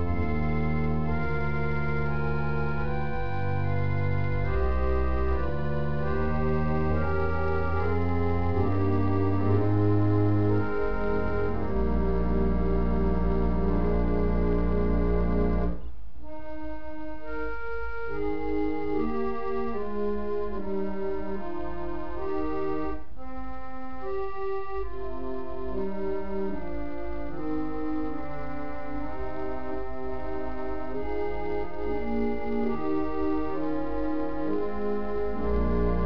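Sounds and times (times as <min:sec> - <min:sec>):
organ music: 0:00.0 - 0:36.0.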